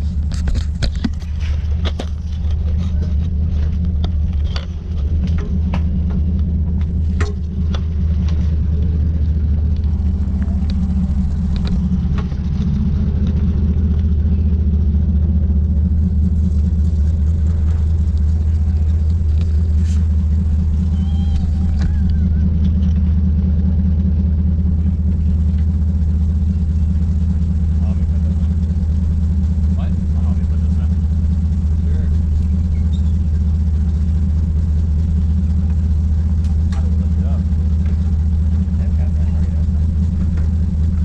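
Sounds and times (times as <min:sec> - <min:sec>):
machine rumbling: 0:00.0 - 0:41.0.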